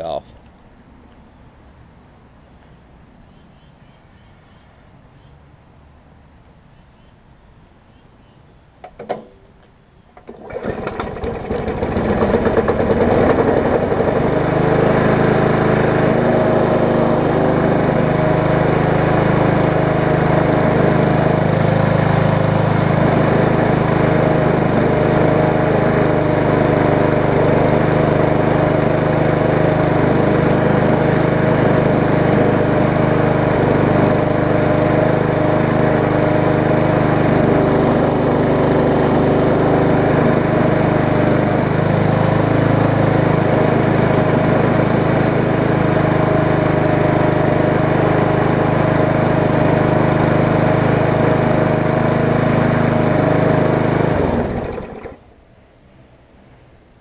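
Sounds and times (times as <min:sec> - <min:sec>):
lawn mower engine starting and running: 0:08.8 - 0:55.4.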